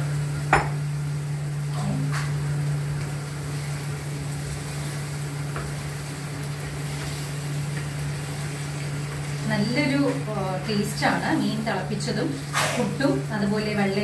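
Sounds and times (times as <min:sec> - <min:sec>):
curry sizzling in a pan: 0:00.0 - 0:14.0.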